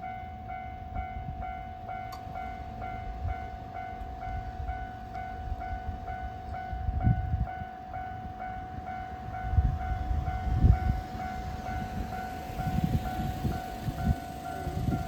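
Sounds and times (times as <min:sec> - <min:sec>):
steady alarm tone: 0:00.0 - 0:15.0.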